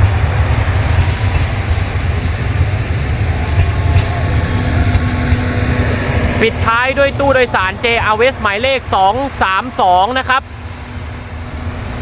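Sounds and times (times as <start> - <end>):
train cars rolling on rails: 0.0 - 12.0.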